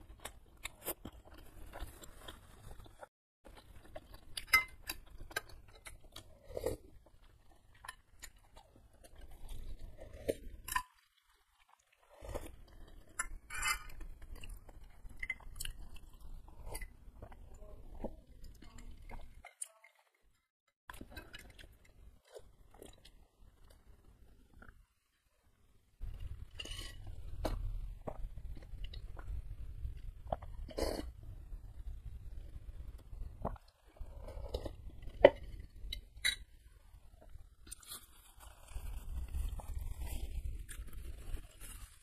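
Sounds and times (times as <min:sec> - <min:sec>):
chewing crunchy food: 0:00.0 - 0:24.8, 0:26.0 - 0:42.0.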